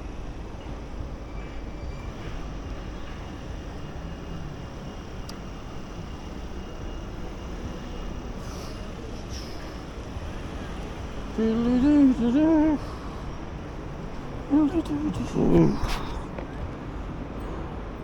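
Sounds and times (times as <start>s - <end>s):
urban traffic rumble: 0.0s - 18.0s.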